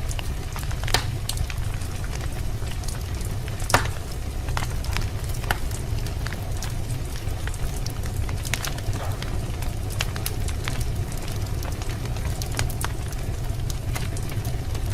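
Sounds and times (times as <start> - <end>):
fire crackling and popping: 0.0 - 14.9
low rumble of fire: 0.0 - 14.9.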